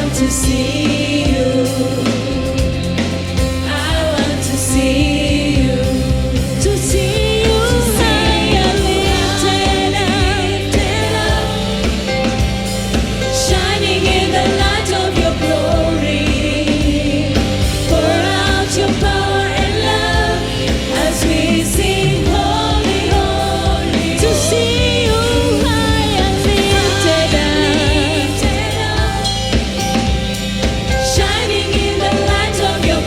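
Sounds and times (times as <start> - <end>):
gospel group singing with band: 0.0 - 33.0.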